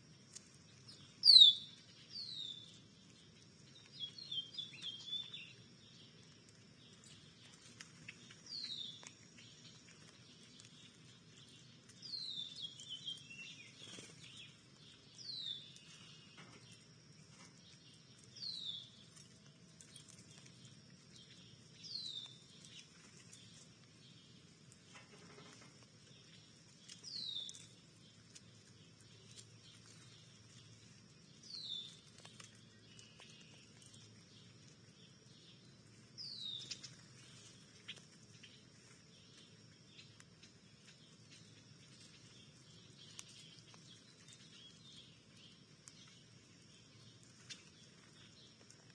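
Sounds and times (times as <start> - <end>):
songbird calling faintly: 0.0 - 48.9.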